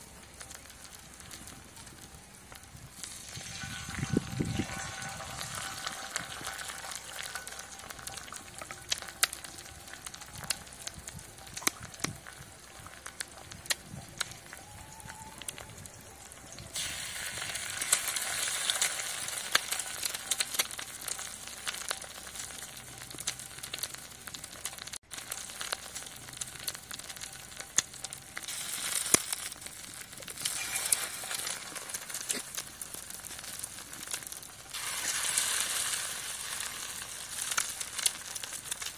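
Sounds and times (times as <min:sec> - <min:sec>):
eggs sizzling in hot oil: 0:02.7 - 0:15.4, 0:16.4 - 0:38.9
oil popping: 0:02.9 - 0:14.6, 0:16.7 - 0:38.9.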